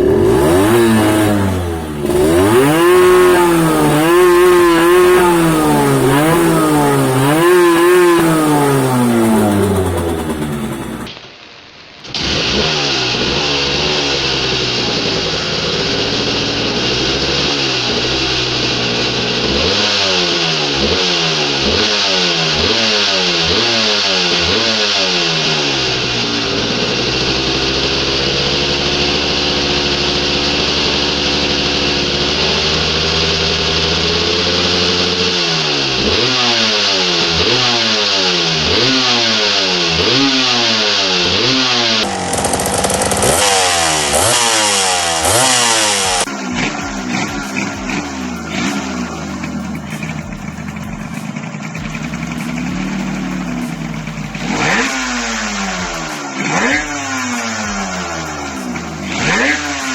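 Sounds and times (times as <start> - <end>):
motorcycle engine idling: 0.0 - 11.2, 12.4 - 59.9
motorcycle engine revving: 0.0 - 11.4, 12.0 - 59.9.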